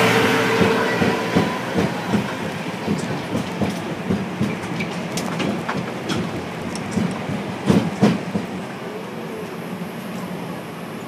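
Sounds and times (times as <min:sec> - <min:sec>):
road train running rumble: 0:00.0 - 0:11.0.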